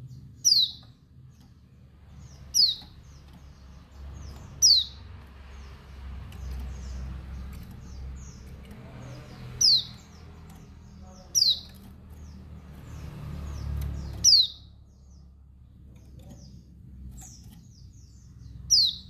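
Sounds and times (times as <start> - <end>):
faint high bird chirps: 0.0 - 19.0.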